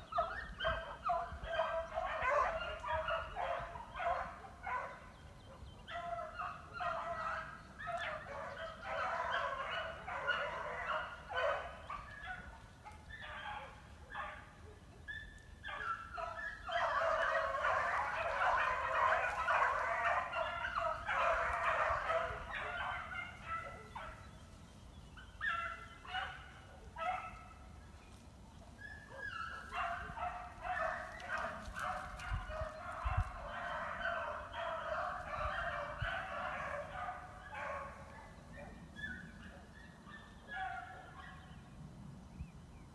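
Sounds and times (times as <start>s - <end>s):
dogs baying: 0.1s - 24.2s, 28.8s - 41.5s.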